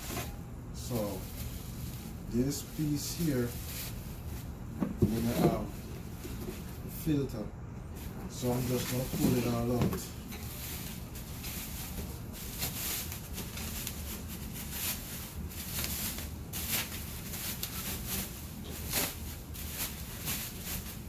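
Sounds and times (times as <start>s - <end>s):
packaging rustling and crinkling: 0.0s - 6.8s, 8.0s - 21.0s
steady low hum: 0.0s - 21.0s.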